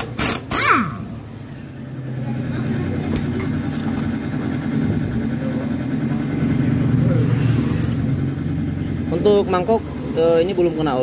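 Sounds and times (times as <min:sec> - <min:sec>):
motorcycle engine idling: 0:01.1 - 0:11.0.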